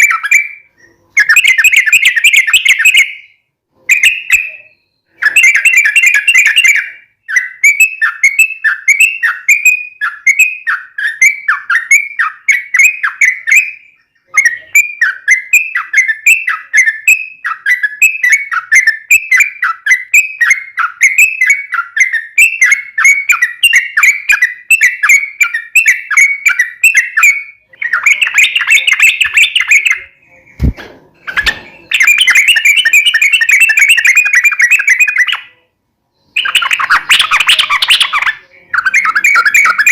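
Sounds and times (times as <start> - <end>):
bird singing chirp notes: 0.0 - 39.9.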